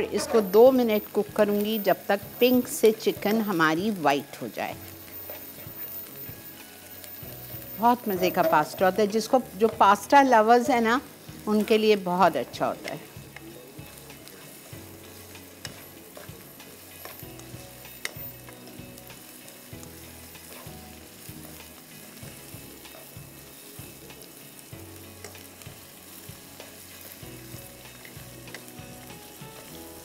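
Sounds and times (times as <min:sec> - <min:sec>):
chicken and onion sizzling in wok: 0:00.0 - 0:30.0.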